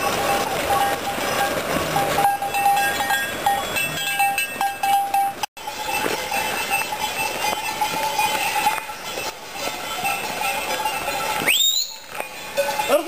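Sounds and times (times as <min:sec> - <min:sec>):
hooves on gravel: 0:00.0 - 0:13.0
sheep bells clanking: 0:00.0 - 0:13.0.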